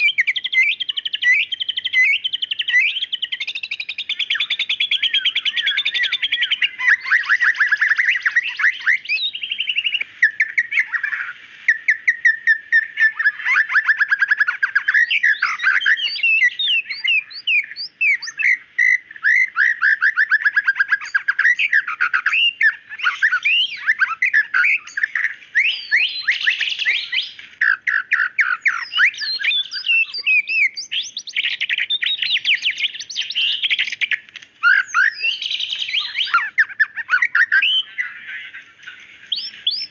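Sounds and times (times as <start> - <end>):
bird singing trills and whistles: 0.0 - 39.9.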